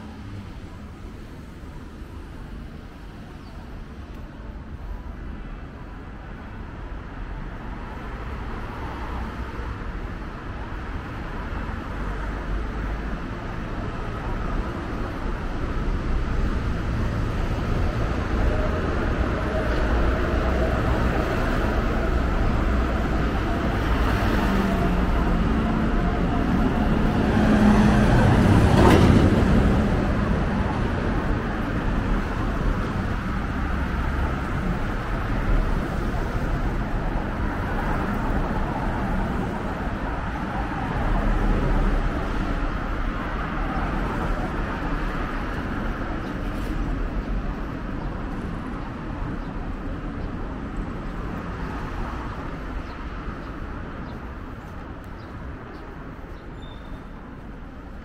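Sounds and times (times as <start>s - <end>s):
road traffic rumbling: 0.0s - 58.0s.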